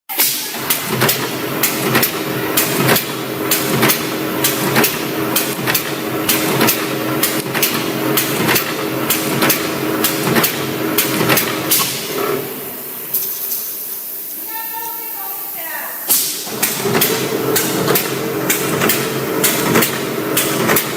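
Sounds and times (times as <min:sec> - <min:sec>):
spot welding machine clacks: 0:00.2 - 0:14.1, 0:16.1 - 0:20.9
steady machine hum: 0:00.4 - 0:15.2, 0:15.8 - 0:20.9.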